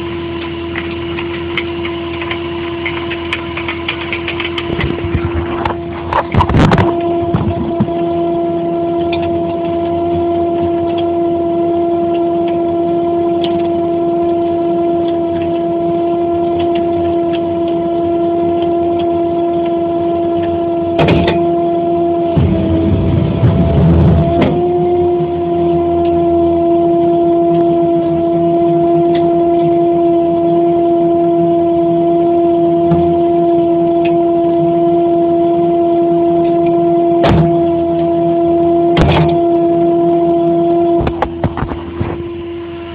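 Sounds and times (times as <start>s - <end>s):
crane truck droning hum: 0.0s - 42.9s.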